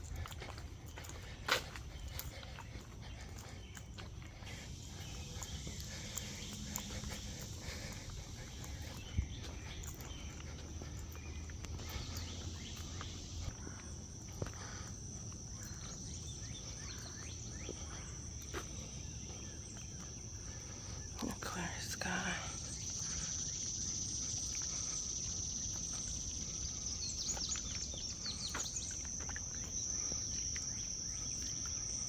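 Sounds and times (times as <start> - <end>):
insects droning: 0.0 - 32.0.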